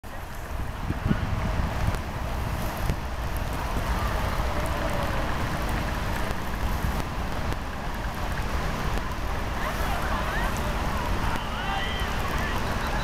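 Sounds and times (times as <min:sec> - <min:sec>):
light rain hiss: 0:00.0 - 0:13.0
wind rumbling on microphone: 0:00.0 - 0:13.0.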